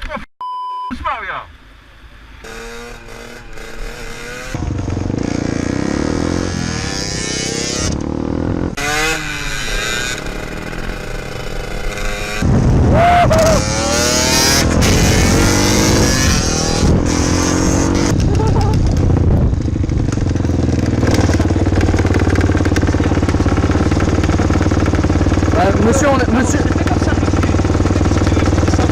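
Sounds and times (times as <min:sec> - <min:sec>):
motorcycle engines revving: 0:02.2 - 0:28.9.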